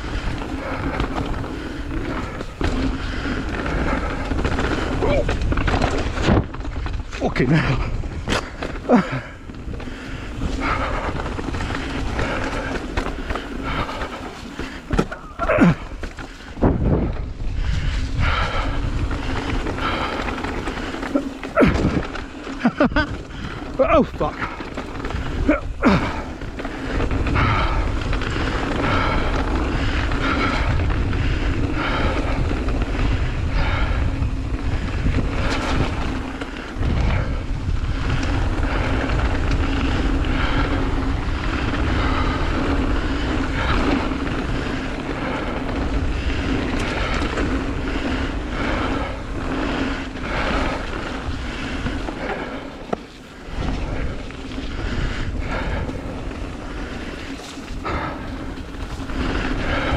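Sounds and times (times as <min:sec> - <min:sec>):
bike knocks and rattles: 0:00.0 - 0:59.9
bike tyres rolling on trail: 0:00.0 - 0:59.9
wind rushing over microphone: 0:00.0 - 0:59.9.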